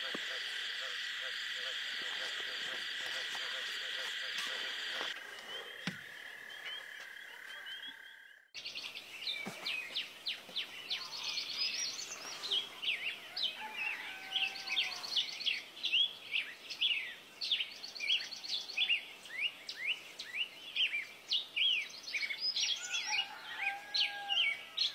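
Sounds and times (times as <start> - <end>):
birds chirping and trilling: 0.0 - 24.9.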